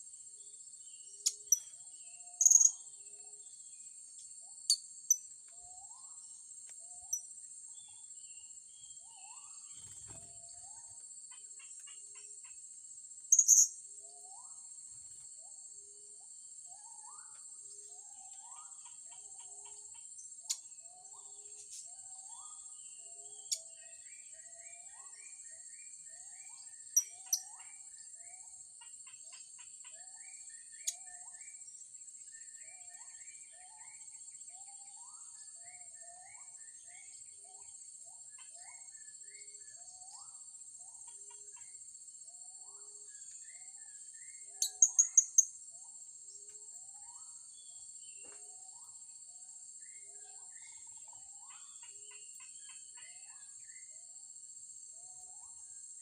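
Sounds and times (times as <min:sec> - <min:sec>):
high drone of insects: 0:00.0 - 0:56.0.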